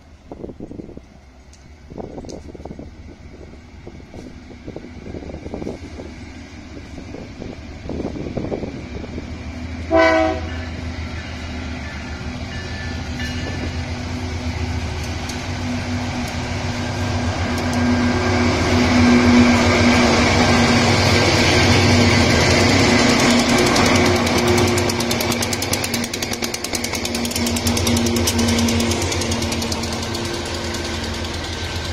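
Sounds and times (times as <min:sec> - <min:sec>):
locomotive engine drone: 0:00.0 - 0:31.9
train wheel and rail noise: 0:00.0 - 0:31.9.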